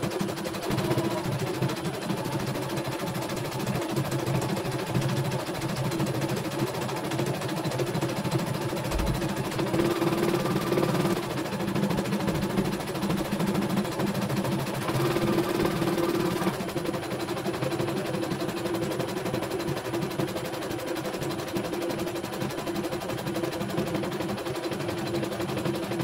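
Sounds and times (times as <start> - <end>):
embroidery machine stitching: 0.0 - 26.0.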